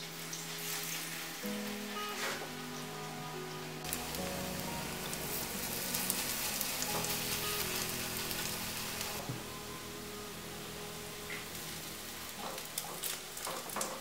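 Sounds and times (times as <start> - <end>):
pancakes sizzling in hot oil: 0.0 - 2.2, 3.8 - 9.5, 10.2 - 14.0
soft background music: 0.0 - 14.0.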